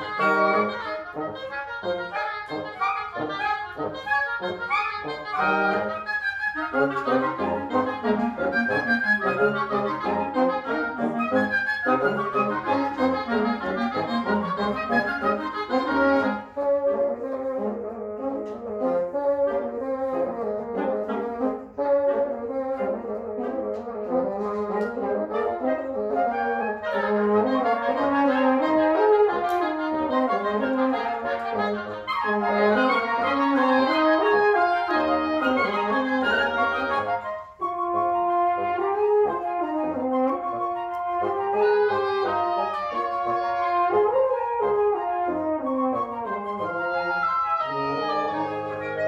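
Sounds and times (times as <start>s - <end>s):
woodwind quintet playing: 0.0s - 49.0s.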